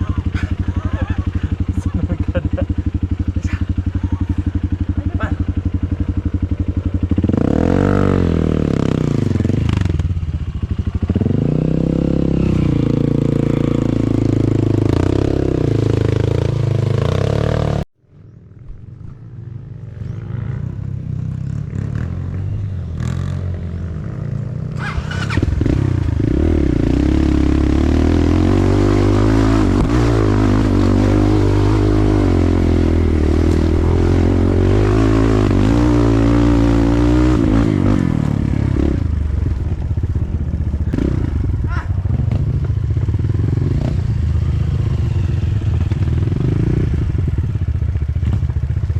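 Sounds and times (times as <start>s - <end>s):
dirt bike engine revving: 0.0s - 17.8s, 19.8s - 47.6s.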